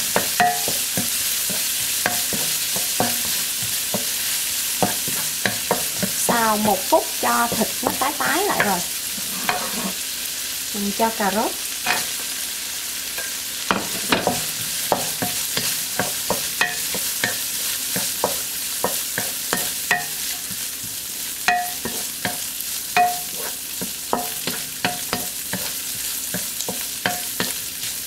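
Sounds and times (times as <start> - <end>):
spatula knocking and scraping wok: 0.0 - 10.0, 11.8 - 12.4, 13.1 - 28.0
wok ringing: 0.0 - 10.0, 11.2 - 12.3, 13.1 - 28.0
meat sizzling in a wok: 0.0 - 28.0.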